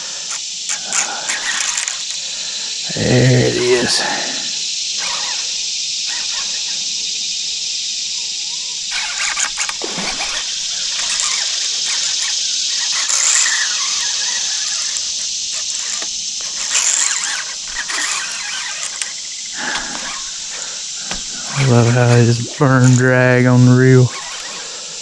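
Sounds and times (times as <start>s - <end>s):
fishing reel drag squealing: 0.0s - 25.0s.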